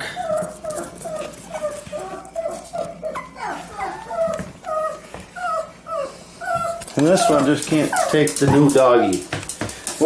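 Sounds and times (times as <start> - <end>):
dog whimpering: 0.0 - 9.3.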